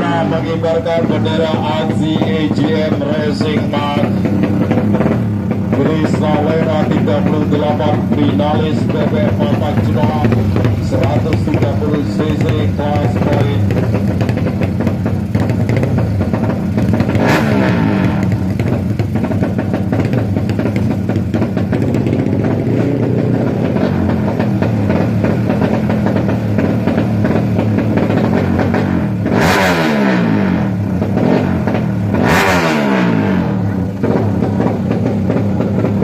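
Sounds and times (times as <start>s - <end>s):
motorcycles revving and accelerating: 0.0s - 36.0s.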